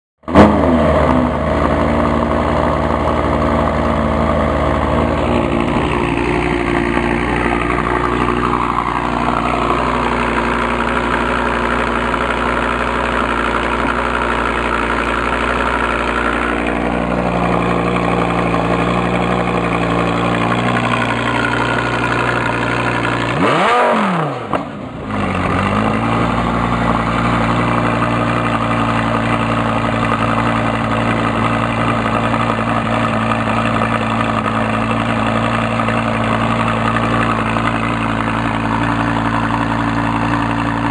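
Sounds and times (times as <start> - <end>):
sports car engine revving and idling: 0.2 - 40.9.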